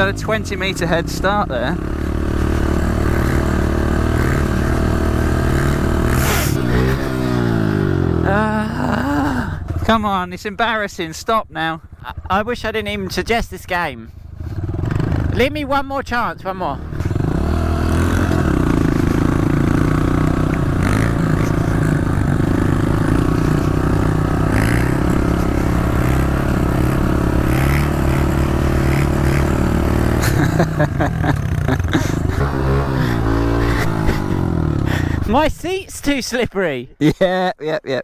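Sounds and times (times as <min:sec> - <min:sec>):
motorbike engine revving: 0:00.0 - 0:10.0, 0:14.2 - 0:15.7, 0:16.4 - 0:35.6.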